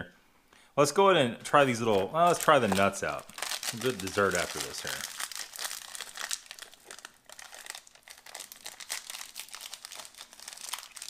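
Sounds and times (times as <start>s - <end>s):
foil snack packet crinkling: 1.6s - 11.0s.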